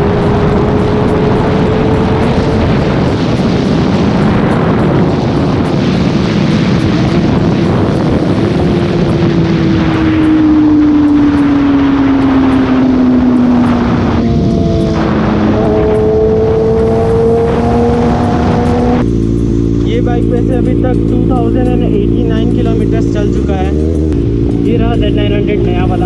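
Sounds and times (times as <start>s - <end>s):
motorcycle engine revving: 0.0s - 26.0s
wind rush: 0.0s - 26.0s.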